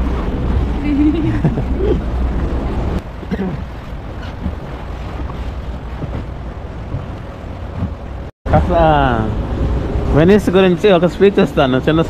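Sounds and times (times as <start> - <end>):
wind buffeting microphone: 0.0 - 11.7
water lapping and splashing: 0.0 - 12.0.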